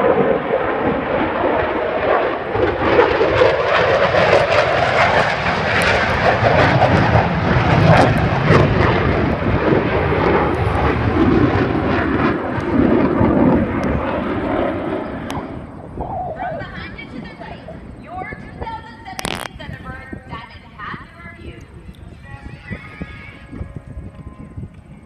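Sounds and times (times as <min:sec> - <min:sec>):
airplane flying by: 0:00.0 - 0:25.0.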